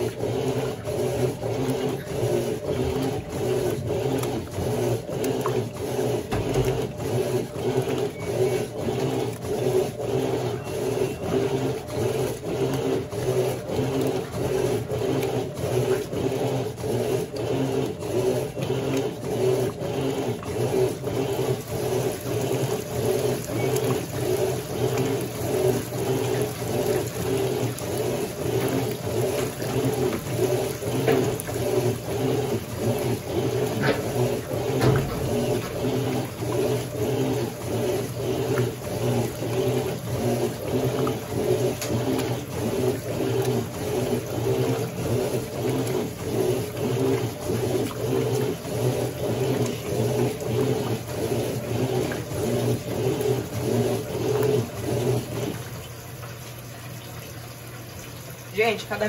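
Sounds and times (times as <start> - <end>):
washing machine agitating: 0.0 - 59.0.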